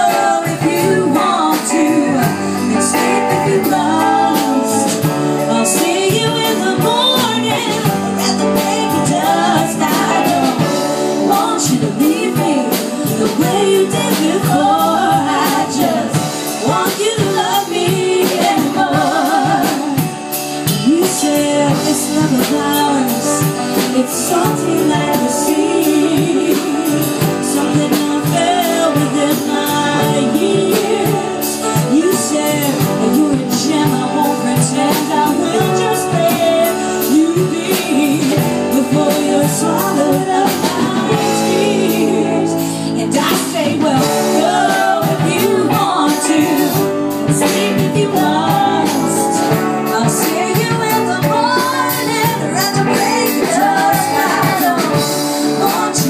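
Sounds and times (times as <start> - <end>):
second guitar: 0.0 - 56.0
woman singing: 0.0 - 56.0.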